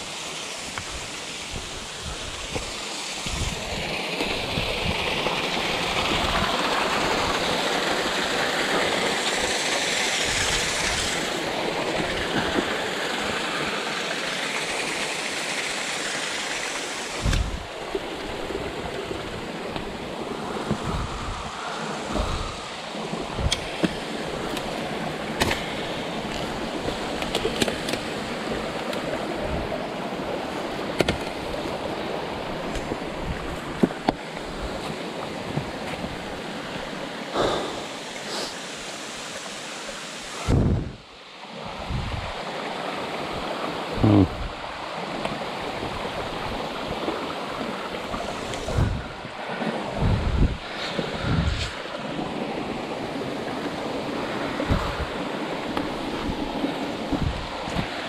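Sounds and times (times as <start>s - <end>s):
creek flowing over rocks: 0.0s - 58.0s.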